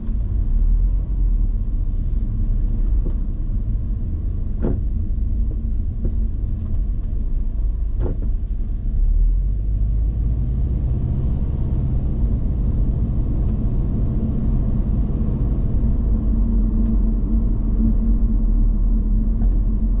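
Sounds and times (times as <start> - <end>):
car engine humming: 0.0 - 20.0
low road rumble: 0.0 - 20.0.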